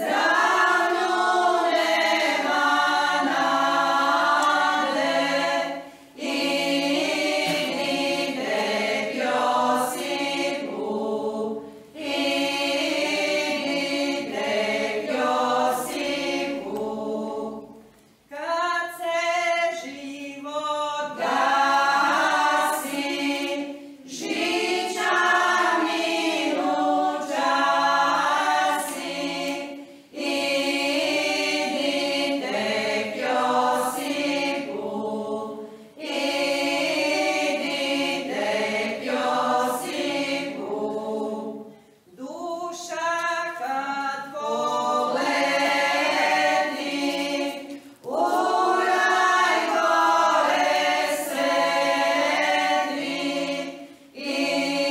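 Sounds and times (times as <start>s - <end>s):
women's choir singing a cappella: 0.0s - 54.9s.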